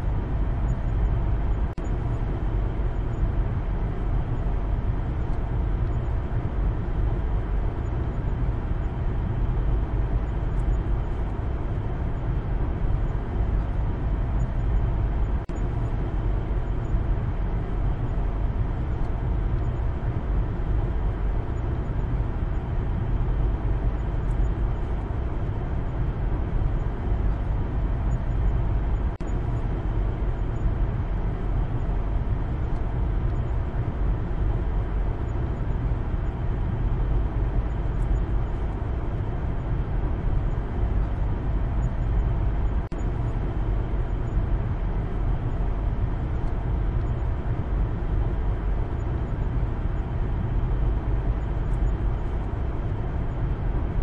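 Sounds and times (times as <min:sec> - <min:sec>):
car interior road and engine rumble: 0:00.0 - 0:54.0.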